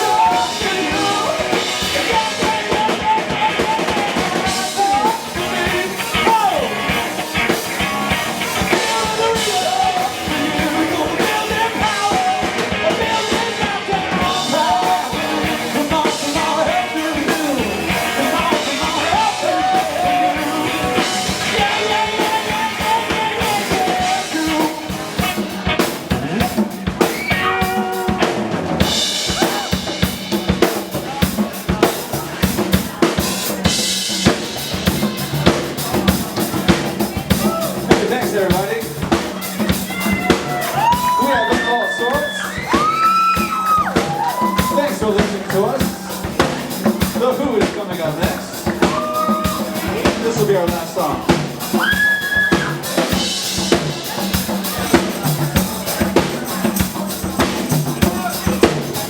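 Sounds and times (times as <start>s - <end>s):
drum kit hits: 0.0s - 59.0s
live rock band playing: 0.0s - 59.0s.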